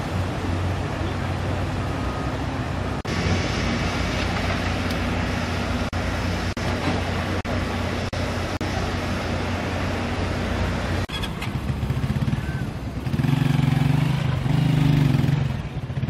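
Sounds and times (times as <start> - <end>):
floodwater rushing: 0.0 - 15.6
diesel engine running: 0.0 - 16.0.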